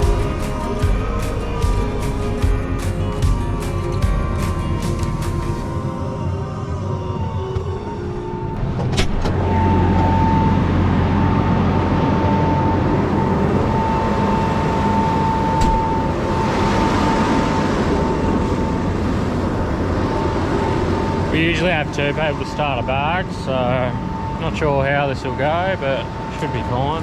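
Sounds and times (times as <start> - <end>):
machine engine whining: 0.0 - 27.0.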